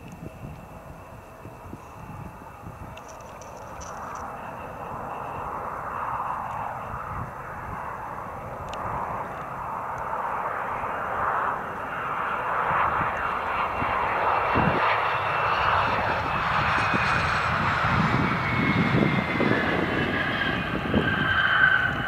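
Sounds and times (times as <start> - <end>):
high turbine whine: 0.0 - 22.0
jet engine roar: 0.0 - 22.0.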